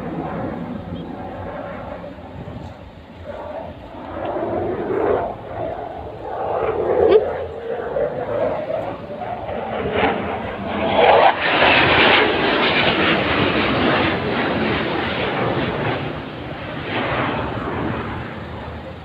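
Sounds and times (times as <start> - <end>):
aircraft flying overhead: 0.0 - 19.0.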